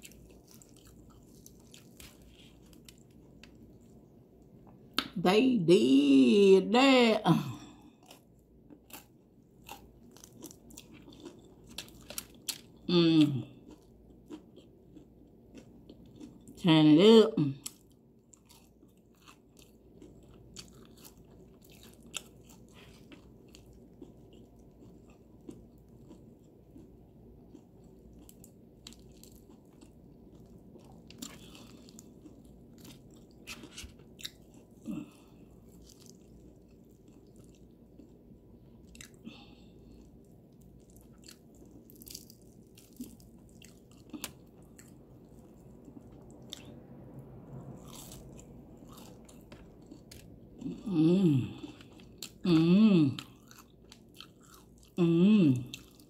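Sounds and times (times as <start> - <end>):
crunching fried chicken: 0.0 - 4.1, 7.6 - 16.6, 17.6 - 55.0
person chewing: 0.0 - 5.1, 7.6 - 16.6, 17.6 - 56.0.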